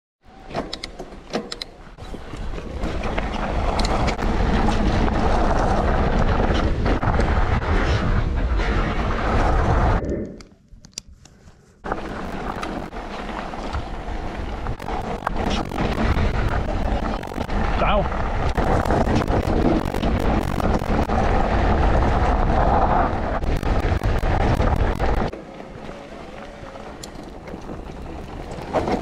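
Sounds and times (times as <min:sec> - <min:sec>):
bike tyres rolling on gravel: 0:01.8 - 0:10.0, 0:11.8 - 0:29.0.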